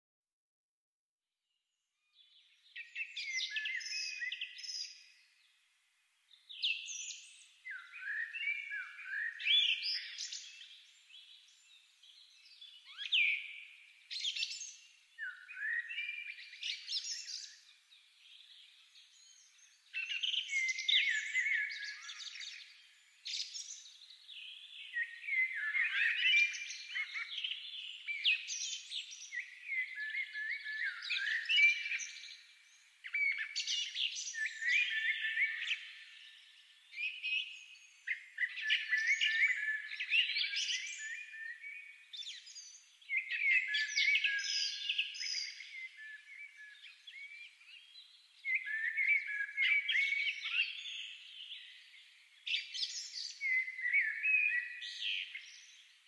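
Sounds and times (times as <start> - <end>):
songbirds chirping and singing: 2.0 - 56.0.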